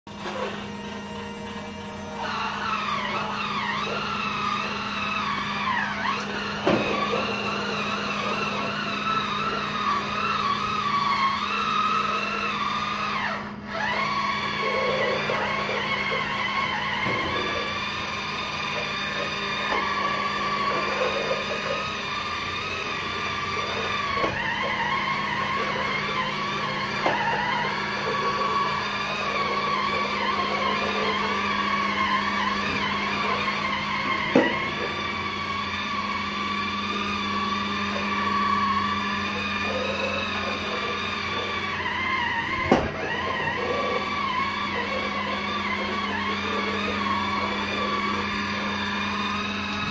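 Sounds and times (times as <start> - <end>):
electric scrubber motor whining: 0.1 - 49.9.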